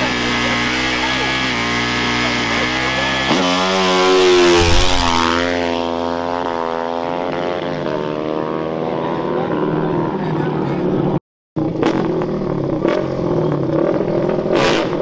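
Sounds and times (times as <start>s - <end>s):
dirt bike engine revving: 0.0s - 9.7s, 11.6s - 15.0s.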